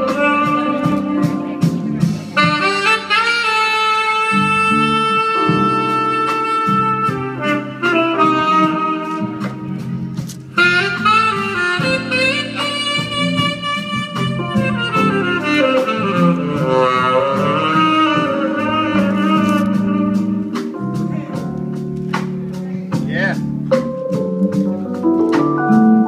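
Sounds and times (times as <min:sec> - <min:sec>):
tenor saxophone melody: 0:00.0 - 0:22.1
jazz band: 0:00.0 - 0:26.0.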